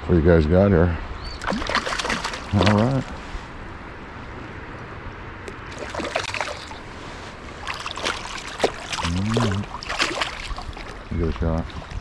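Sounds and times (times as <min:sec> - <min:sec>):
creek water flowing: 0:01.4 - 0:12.0.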